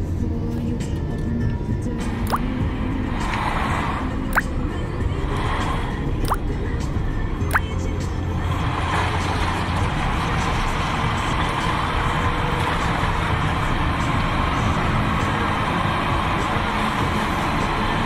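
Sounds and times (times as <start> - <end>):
car engine and road noise hum: 0.0 - 18.0.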